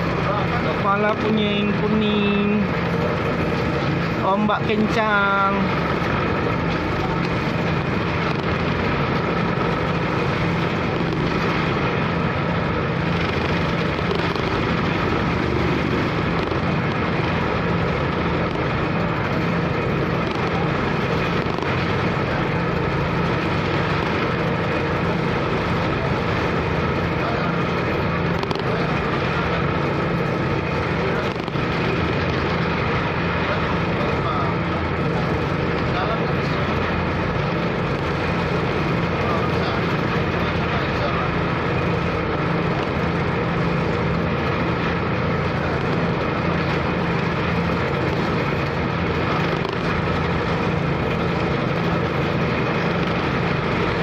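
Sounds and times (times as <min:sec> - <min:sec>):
ferry engine humming: 0:00.0 - 0:54.0
wind: 0:00.0 - 0:54.0.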